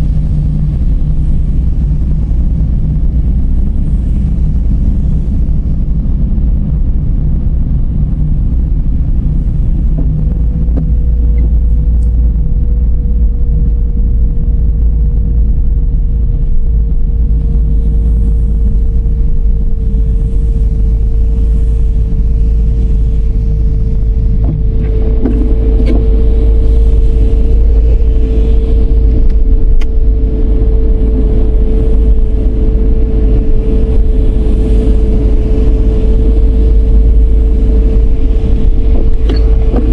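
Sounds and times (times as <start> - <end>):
car road and engine rumble: 0.0 - 39.9
steady whine: 0.0 - 39.9.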